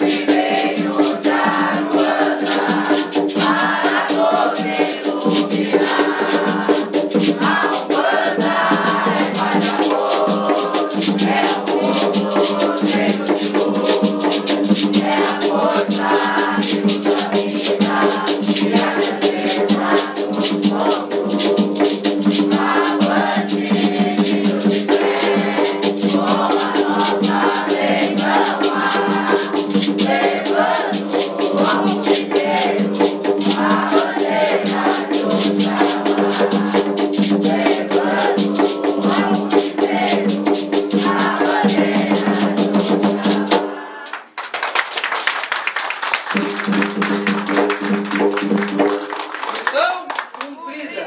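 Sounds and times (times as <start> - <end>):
maraca shaking: 0.0 - 43.6, 44.8 - 51.0
hand drum: 0.0 - 43.7, 46.2 - 50.2
group singing a hymn: 0.0 - 44.4, 46.3 - 48.8, 50.7 - 51.0.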